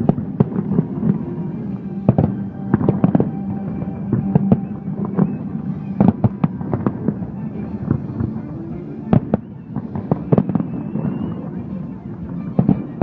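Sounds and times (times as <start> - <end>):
fireworks bursting with sharp bangs: 0.0 - 13.0
music playing: 0.0 - 13.0.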